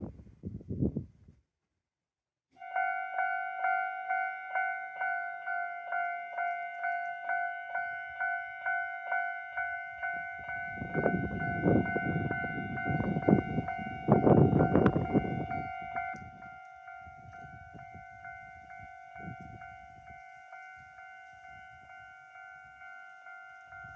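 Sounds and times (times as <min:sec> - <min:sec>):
level crossing warning bell: 0:02.6 - 0:23.9
approaching train rumble: 0:03.1 - 0:23.9.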